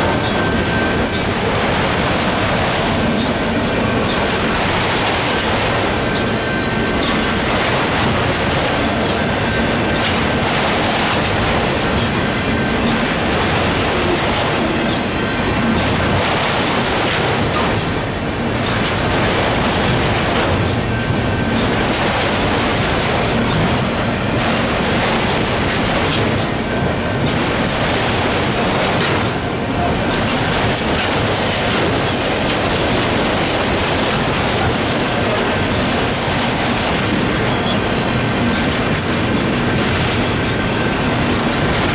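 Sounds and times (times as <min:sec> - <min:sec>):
freight train wheels rumbling: 0:00.0 - 0:41.9
rail joint clickety-clack: 0:00.0 - 0:41.9.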